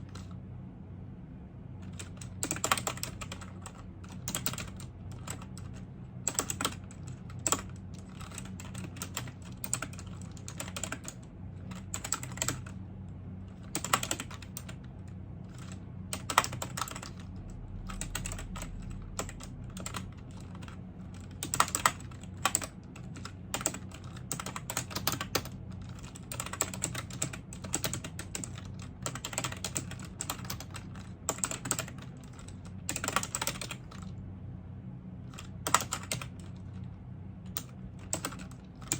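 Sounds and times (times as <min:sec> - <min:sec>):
steady low hum: 0:00.0 - 0:38.9
computer keyboard typing: 0:01.8 - 0:12.8, 0:13.5 - 0:34.1, 0:35.3 - 0:36.7, 0:37.5 - 0:38.9.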